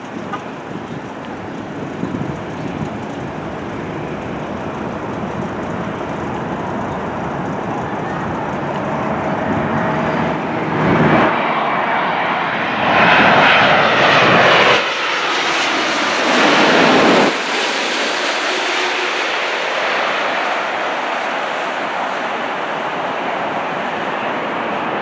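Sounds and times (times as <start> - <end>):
jet airliner roar overhead: 0.0 - 25.0.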